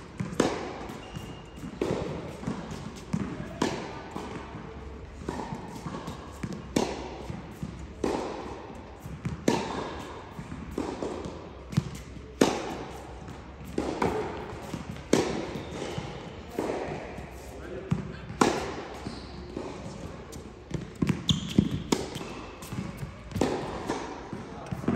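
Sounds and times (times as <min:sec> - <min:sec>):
tennis ball hits: 0:00.2 - 0:04.5, 0:05.2 - 0:24.9
ball bouncing on court: 0:00.2 - 0:17.0, 0:17.9 - 0:24.9.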